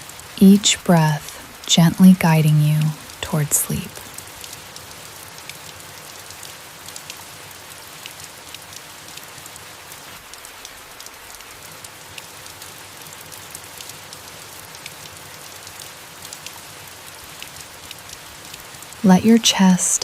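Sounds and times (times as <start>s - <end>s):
soft rain falling on leaves: 0.0s - 20.0s.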